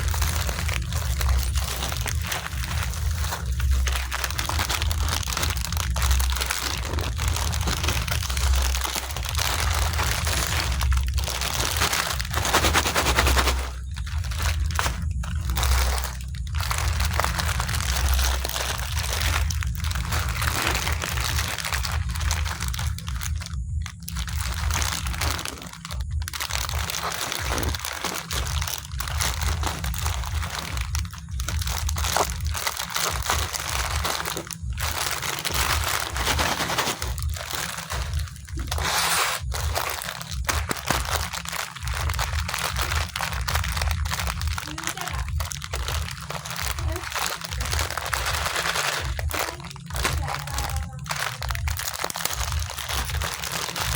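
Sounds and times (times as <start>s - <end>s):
biscuits crunching while chewed: 0.0s - 53.9s
wrapper crinkling: 0.0s - 53.9s.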